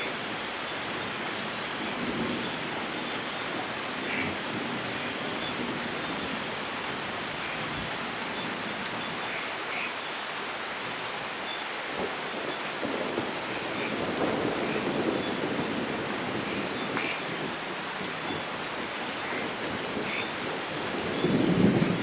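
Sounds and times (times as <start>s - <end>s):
steady rainfall: 0.0s - 22.0s.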